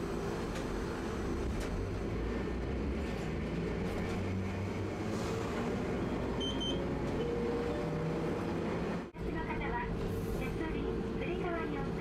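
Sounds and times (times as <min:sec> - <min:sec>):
streetcar wheels rumbling on rail: 0:00.0 - 0:12.0.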